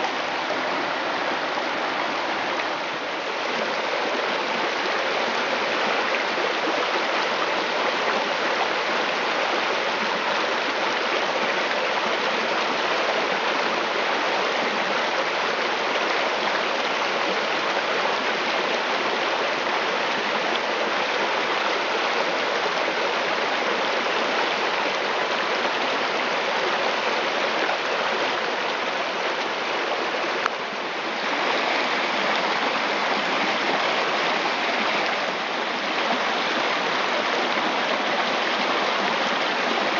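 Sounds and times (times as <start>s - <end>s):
creek rushing over stones: 0.0s - 39.9s.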